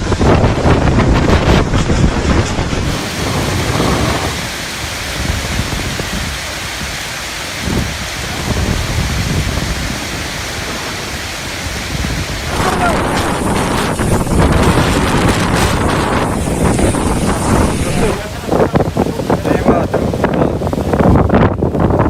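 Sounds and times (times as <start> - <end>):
strong gusting wind: 0.0 - 22.0
wind buffeting microphone: 0.0 - 22.0.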